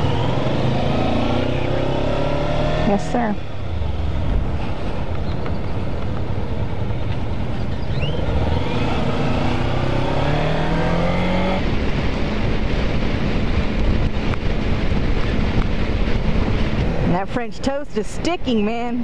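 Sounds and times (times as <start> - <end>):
motorcycle engine accelerating: 0.0 - 17.2
wind rush: 0.0 - 19.0.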